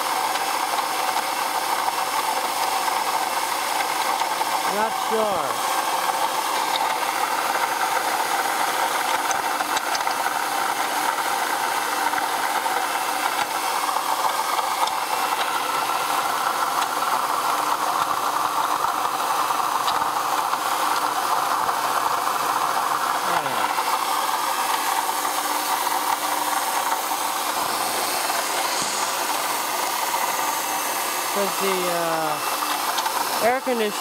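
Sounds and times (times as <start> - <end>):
steady grinding from engine belts: 0.0 - 34.0.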